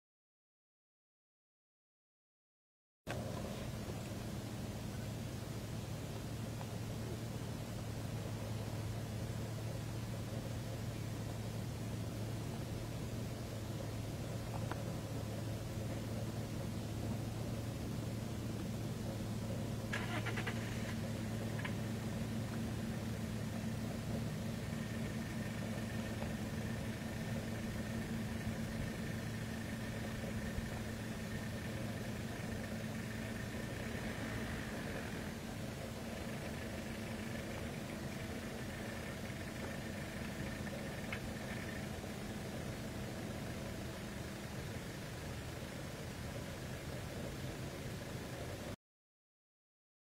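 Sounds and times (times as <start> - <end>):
car engine idling: 3.1 - 48.8.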